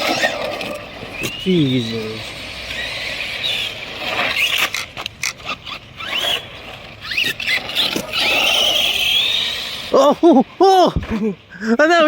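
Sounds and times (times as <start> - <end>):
electric rc cars whining: 0.0 - 10.4
tire scrapes and clicks: 0.0 - 10.4.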